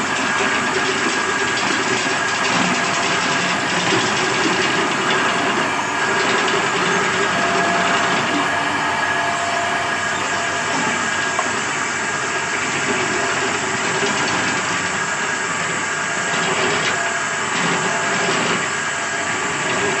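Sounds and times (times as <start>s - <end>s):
belt sanding machine running: 0.0s - 20.0s.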